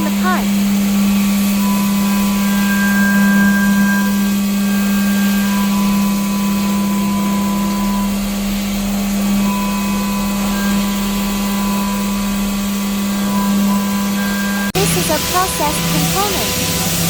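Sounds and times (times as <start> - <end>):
cnc machine humming and hissing: 0.0 - 17.0
high machine whine: 0.0 - 17.0.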